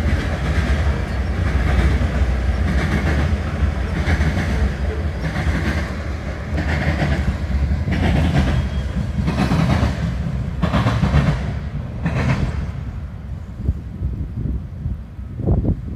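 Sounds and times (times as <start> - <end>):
train wheels clattering on rail: 0.0 - 14.4
freight train rumbling past: 0.0 - 15.9.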